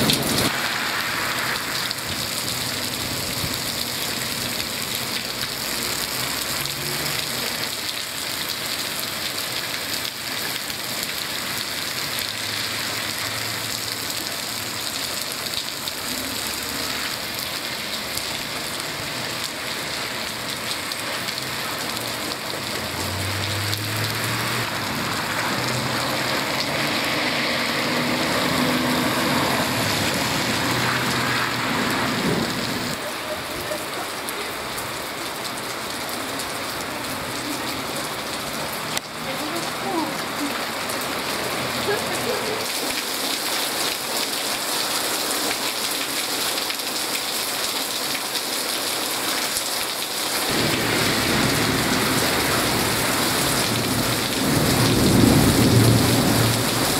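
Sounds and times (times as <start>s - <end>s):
rain splashing on surfaces: 0.0s - 56.9s.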